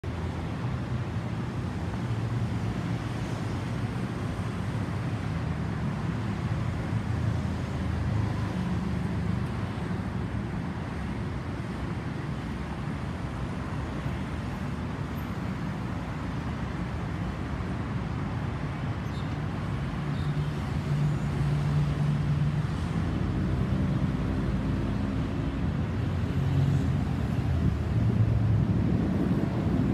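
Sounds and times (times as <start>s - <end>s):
road traffic hum: 0.0s - 29.9s.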